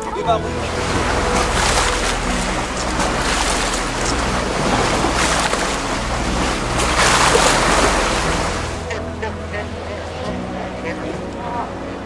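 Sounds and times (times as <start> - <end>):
low steady drone: 0.0 - 12.0
water rushing past hull: 0.0 - 12.0.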